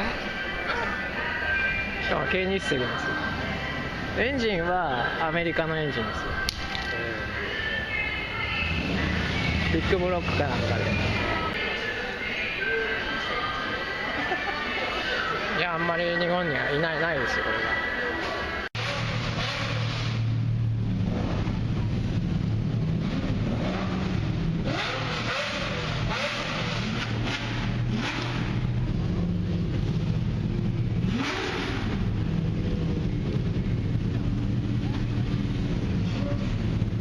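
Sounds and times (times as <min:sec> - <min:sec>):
car engine humming: 0:00.0 - 0:15.9, 0:16.5 - 0:37.0.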